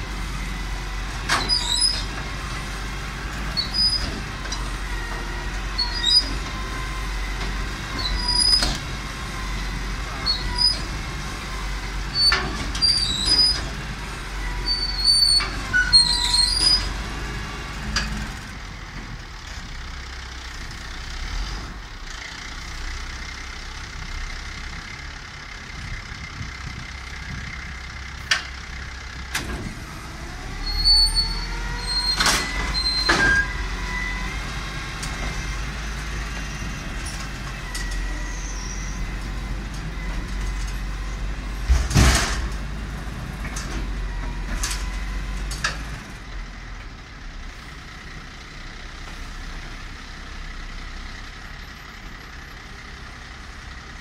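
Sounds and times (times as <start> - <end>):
garbage truck engine running: 0.0 - 54.0.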